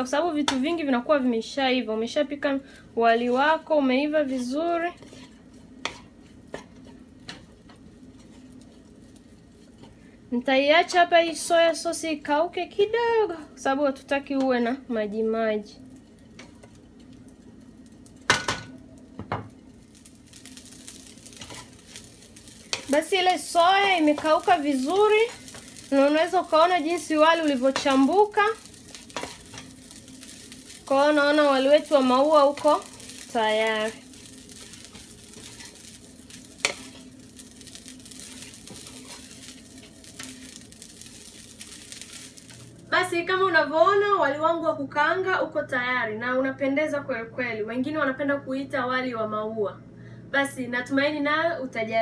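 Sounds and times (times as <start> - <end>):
faint sizzle from frying pan: 0.0 - 52.0.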